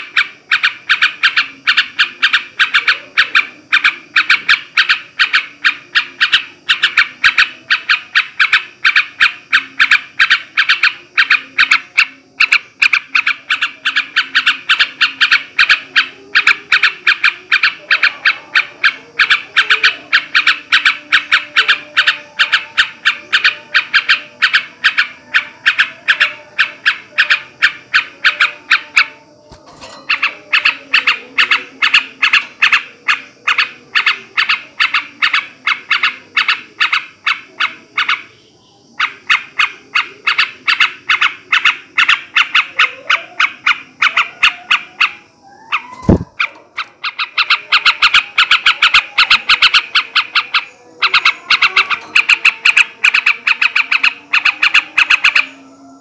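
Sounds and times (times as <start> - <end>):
bulbul chattering: 0.0 - 56.0.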